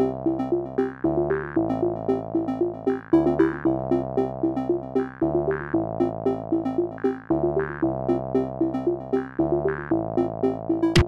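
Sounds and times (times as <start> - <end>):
bouncy synthesizer tune: 0.0 - 11.0.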